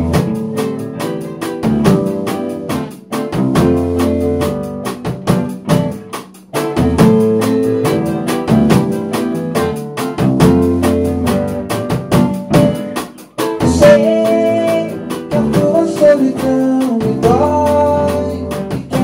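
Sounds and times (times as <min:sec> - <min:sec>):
acoustic guitar: 0:00.0 - 0:19.0
drum kit steady beat: 0:00.0 - 0:19.0
keyboard: 0:00.0 - 0:19.0.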